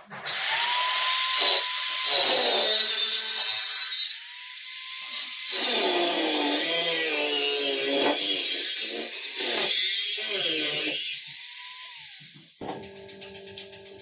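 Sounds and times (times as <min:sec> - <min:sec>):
power tool motor whine: 0:00.3 - 0:12.3.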